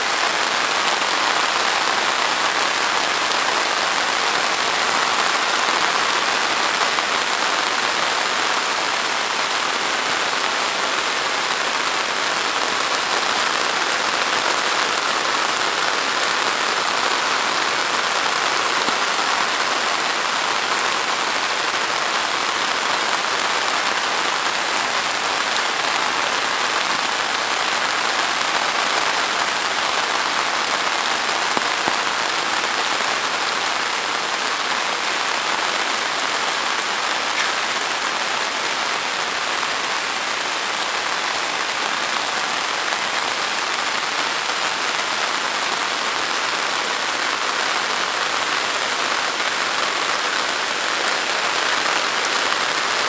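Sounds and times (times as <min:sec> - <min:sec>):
heavy rain on foliage: 0:00.0 - 0:53.0.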